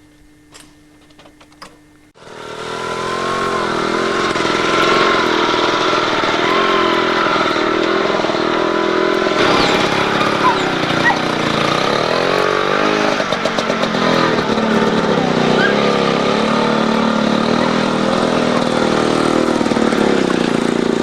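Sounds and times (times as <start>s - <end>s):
small engine revving: 2.2s - 21.0s.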